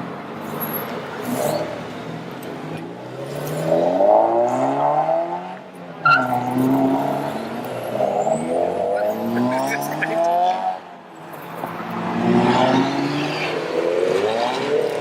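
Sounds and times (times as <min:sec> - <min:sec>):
car engine revving: 0:03.0 - 0:15.0.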